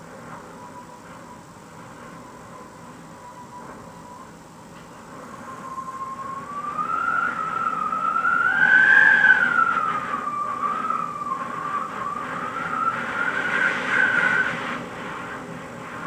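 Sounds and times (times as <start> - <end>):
faint rush of wind: 0.0 - 16.0
wind whistling through window gap: 0.0 - 16.0.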